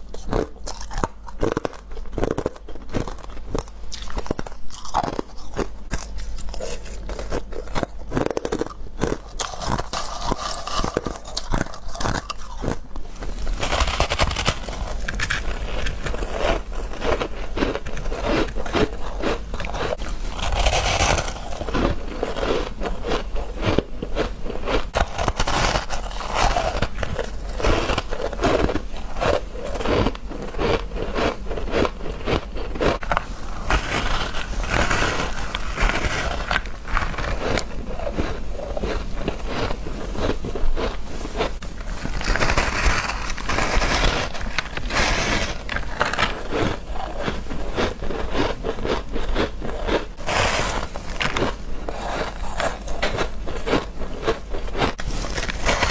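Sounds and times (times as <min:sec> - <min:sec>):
person chewing ice crunching: 0:00.0 - 0:55.9.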